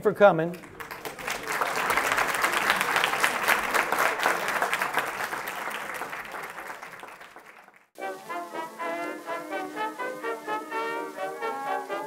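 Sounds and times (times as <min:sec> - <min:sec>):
audience applauding: 0:00.5 - 0:12.0.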